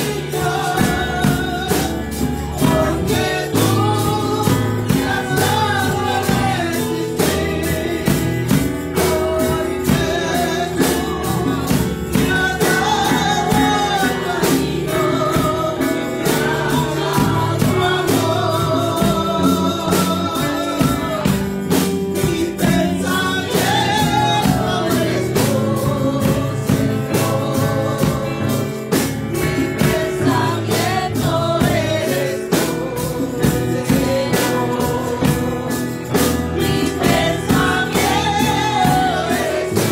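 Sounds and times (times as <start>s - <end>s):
woman singing into microphone: 0.0s - 28.8s, 29.4s - 39.9s
electric bass: 0.0s - 39.9s
percussion beat: 0.0s - 39.9s.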